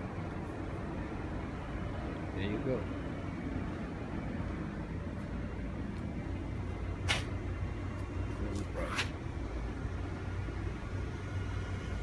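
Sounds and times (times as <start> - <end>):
cooling fan humming: 0.0 - 12.0.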